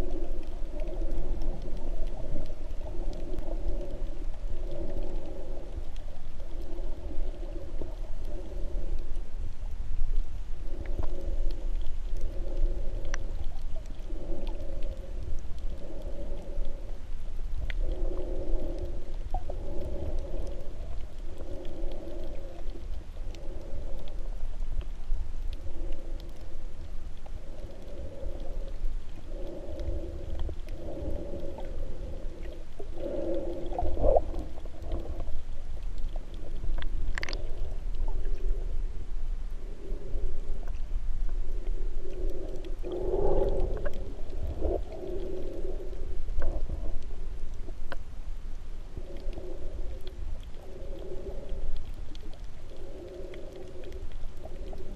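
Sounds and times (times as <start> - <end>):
droning hum: 0.0 - 54.9
underwater rumble: 0.0 - 54.9.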